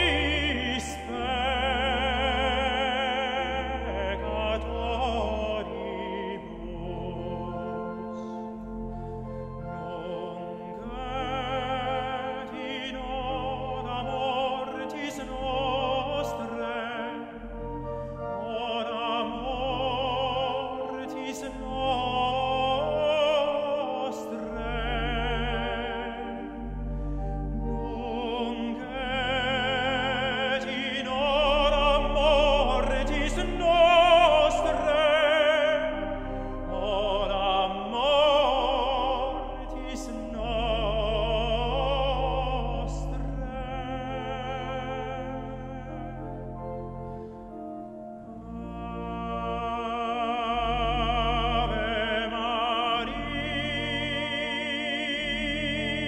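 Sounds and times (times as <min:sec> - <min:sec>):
church organ low notes: 0:00.0 - 0:56.0
tenor singing with vibrato: 0:00.0 - 0:56.0.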